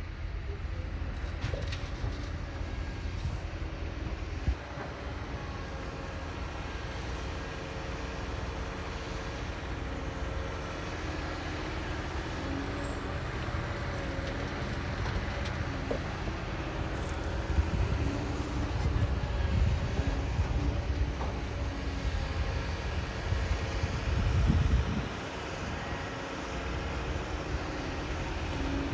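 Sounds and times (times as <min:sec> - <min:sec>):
diesel engine rumble: 0:00.0 - 0:28.9.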